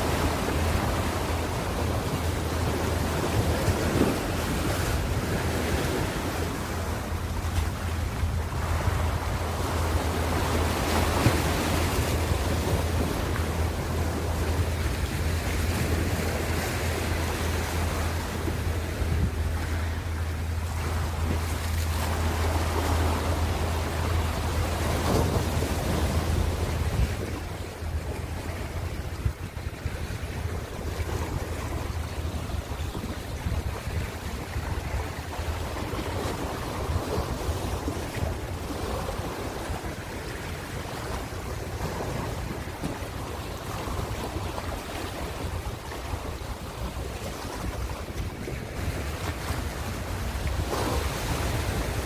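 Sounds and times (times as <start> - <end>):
ocean waves breaking on shore: 0.0 - 52.0
wind rumble on microphone: 0.0 - 52.0.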